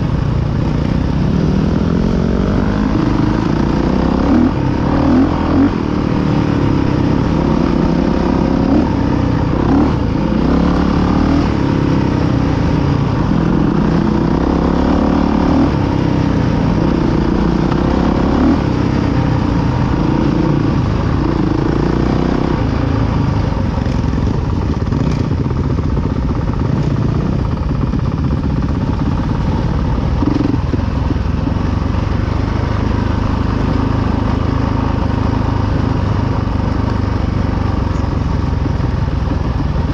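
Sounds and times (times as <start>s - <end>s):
dirt bike engine revving: 1.3s - 34.8s.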